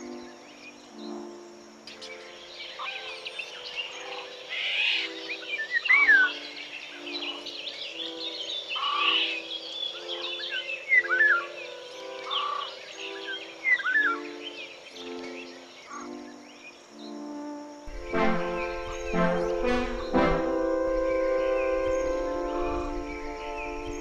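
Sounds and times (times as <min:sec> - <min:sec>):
birds chirping and singing: 0:00.0 - 0:24.0
slow music of low held notes: 0:00.0 - 0:24.0.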